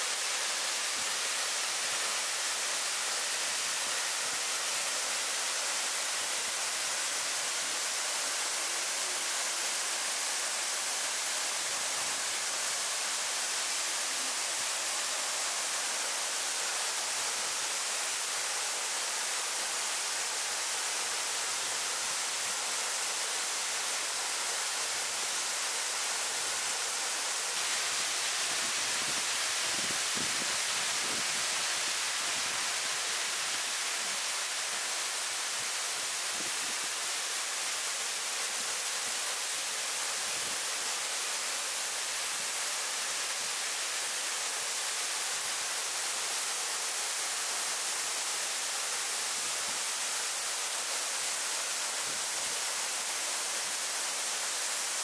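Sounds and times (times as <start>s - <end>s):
rushing stream water: 0.0s - 55.0s.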